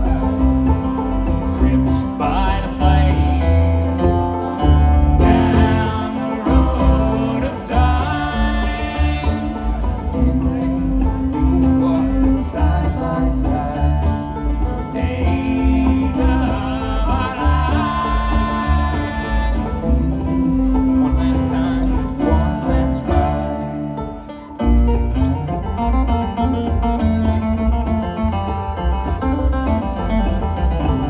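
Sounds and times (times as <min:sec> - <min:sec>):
acoustic guitar: 0:00.0 - 0:31.0
banjo picking: 0:00.0 - 0:31.0
upright bass: 0:00.0 - 0:31.0.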